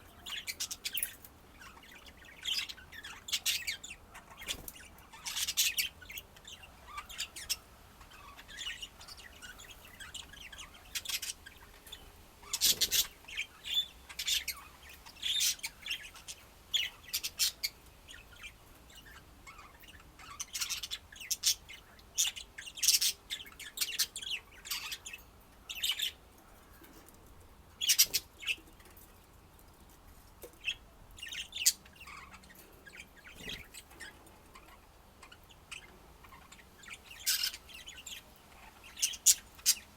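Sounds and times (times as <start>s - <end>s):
budgerigars chirping: 0.0s - 27.0s, 27.7s - 29.1s, 30.6s - 39.9s.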